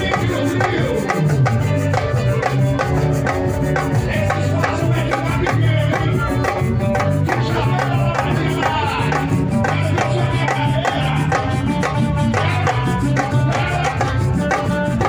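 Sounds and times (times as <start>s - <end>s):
drums and shakers: 0.0s - 15.0s.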